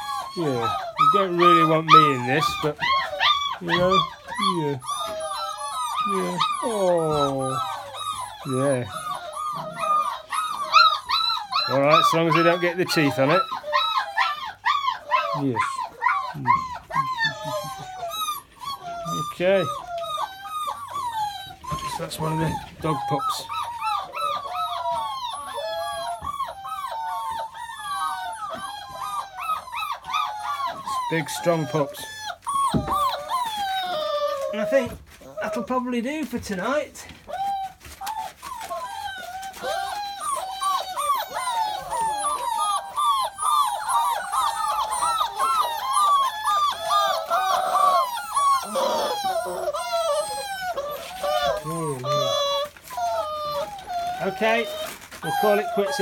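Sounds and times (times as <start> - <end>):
puppies whining and yelping: 0.0 - 56.0.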